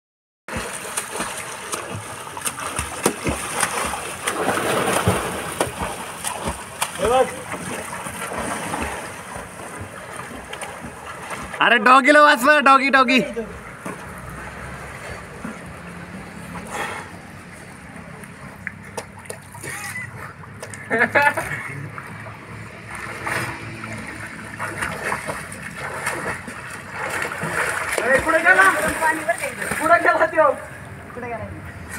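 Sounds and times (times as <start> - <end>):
swimmer splashing: 0.5 - 31.9.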